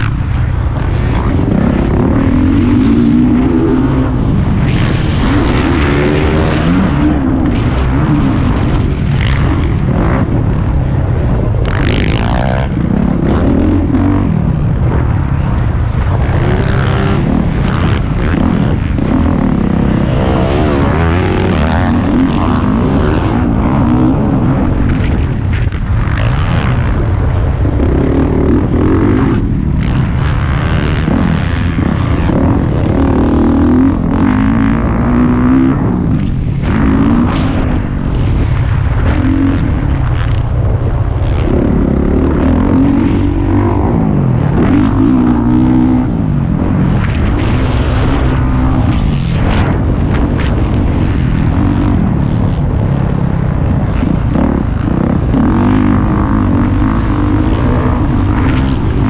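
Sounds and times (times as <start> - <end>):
motocross bike engine revving: 0.0 - 59.0
wind noise on microphone: 0.0 - 59.0.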